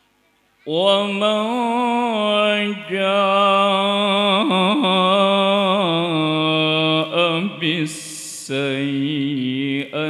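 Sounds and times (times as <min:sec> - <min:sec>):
man reciting melodically: 0:00.7 - 0:10.0.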